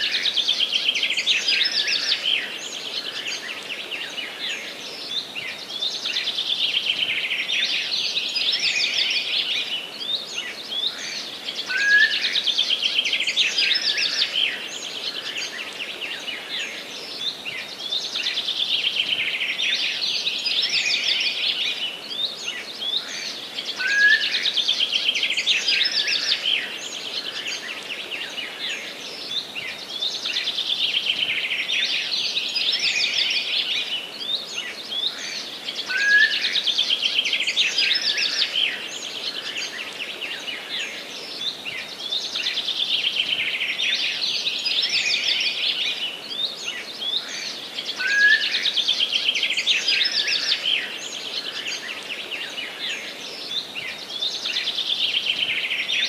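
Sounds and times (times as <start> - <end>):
faint background hiss: 0.0 - 56.0
songbird singing: 0.0 - 56.0.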